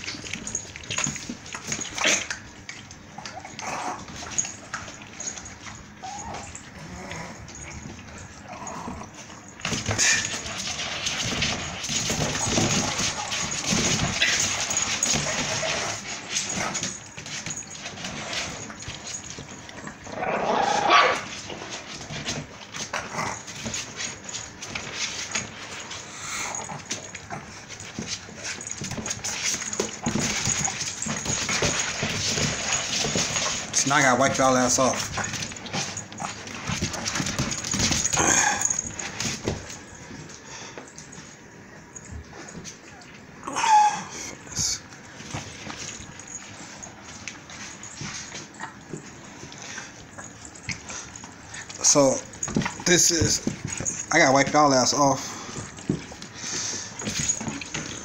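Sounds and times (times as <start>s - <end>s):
puppies scuffling in plastic tub: 0.0s - 43.4s, 44.3s - 58.0s.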